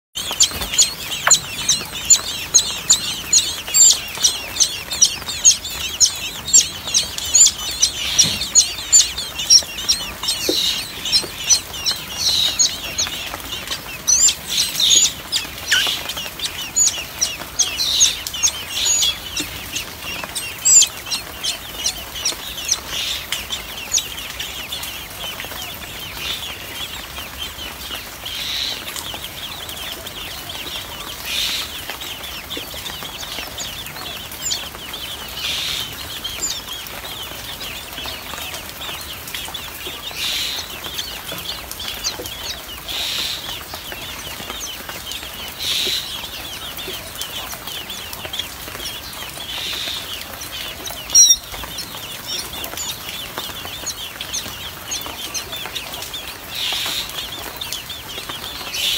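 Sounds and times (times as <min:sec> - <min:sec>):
nestling birds chirping: 0:00.1 - 0:58.9.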